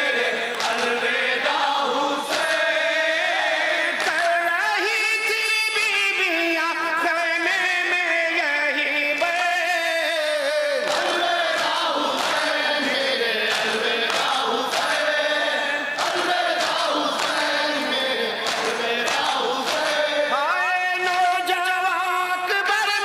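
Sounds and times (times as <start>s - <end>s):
men chanting in unison: 0.0s - 5.0s, 7.3s - 21.5s.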